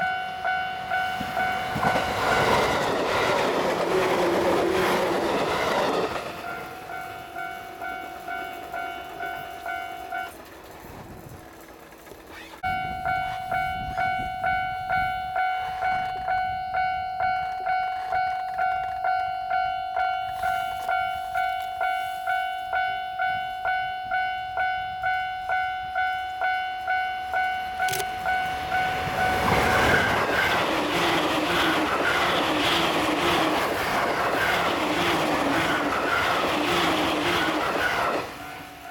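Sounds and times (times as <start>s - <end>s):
level crossing bell ringing: 0.0s - 10.4s, 12.6s - 33.6s
electric train running past: 0.0s - 38.9s.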